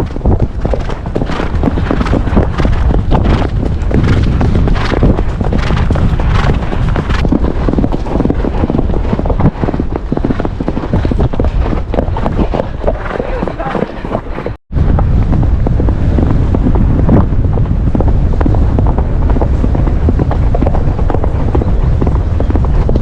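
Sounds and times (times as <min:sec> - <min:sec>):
heavy low rumble: 0:00.0 - 0:12.4, 0:14.7 - 0:23.0
horse hooves cantering: 0:00.0 - 0:23.0.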